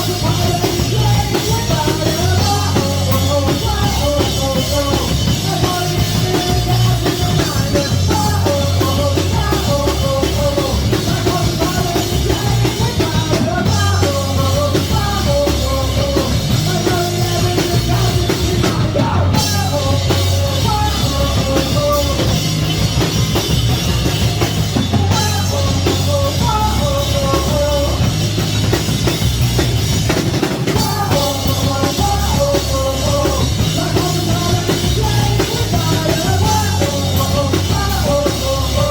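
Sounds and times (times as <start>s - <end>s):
person singing: 0.0s - 28.4s, 30.6s - 38.9s
drums: 0.0s - 38.9s
live rock band playing: 0.0s - 38.9s.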